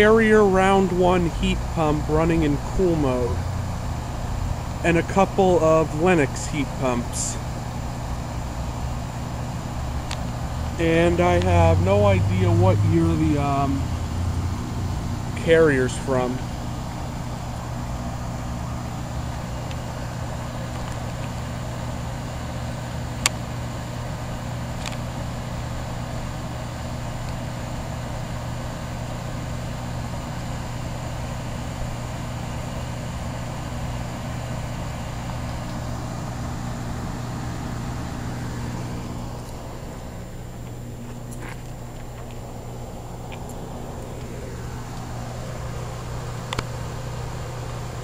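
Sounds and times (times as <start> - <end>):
compressor hum: 0.0 - 48.0
condenser fan whoosh: 0.0 - 48.0.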